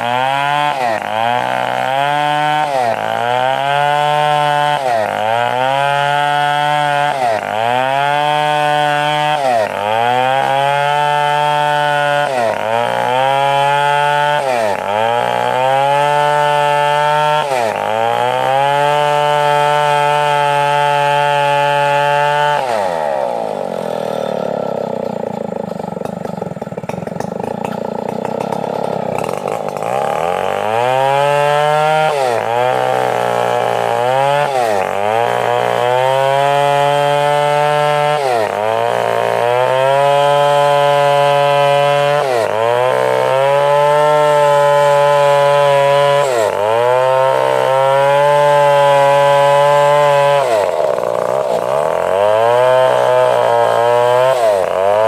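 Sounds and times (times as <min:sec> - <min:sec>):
two-stroke chainsaw running: 0:00.0 - 0:55.0.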